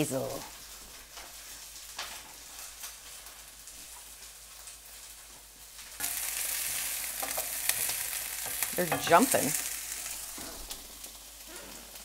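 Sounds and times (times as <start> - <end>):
onion sizzling in a pan: 0.0 - 12.0
small crackles: 0.0 - 12.0.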